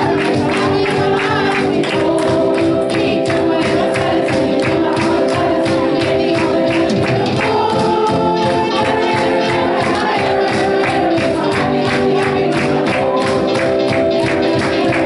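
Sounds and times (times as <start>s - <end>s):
group singing gospel music: 0.0s - 15.0s.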